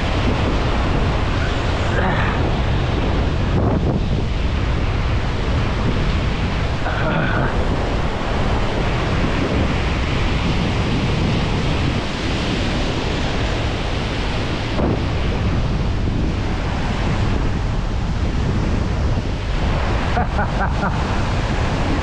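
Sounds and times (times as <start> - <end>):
surf breaking over rocks: 0.0 - 22.0
wind buffeting microphone: 0.0 - 22.0.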